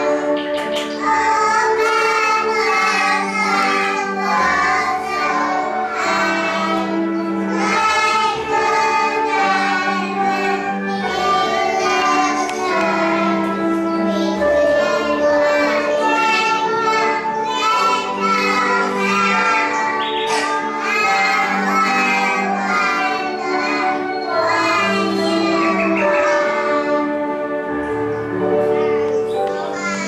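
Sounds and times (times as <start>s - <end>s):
children singing: 0.0s - 30.0s
instrumental backing track: 0.0s - 30.0s.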